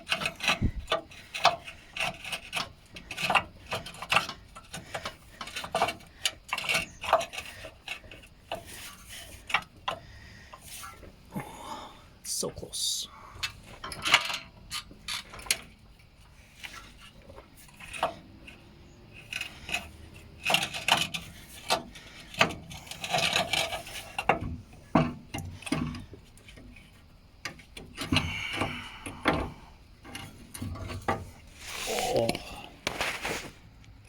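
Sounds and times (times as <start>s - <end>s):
metal clanks and scraping: 0.0s - 11.2s, 13.4s - 33.6s.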